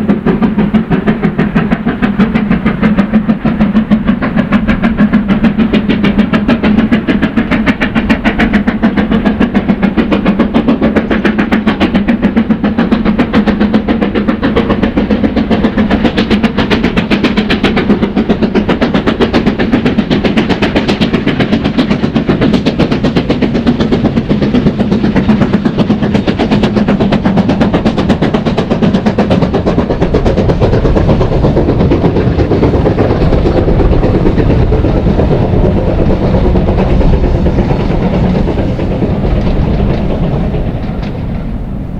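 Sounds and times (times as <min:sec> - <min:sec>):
steam train running: 0:00.0 - 0:41.9.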